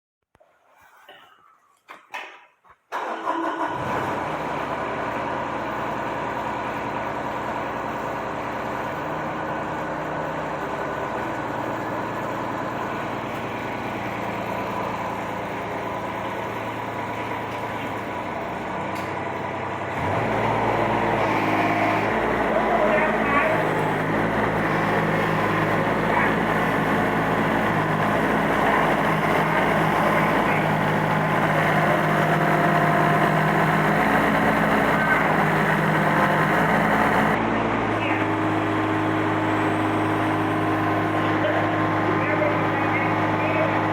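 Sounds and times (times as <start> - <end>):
excavator diesel engine idling: 3.0 - 43.9.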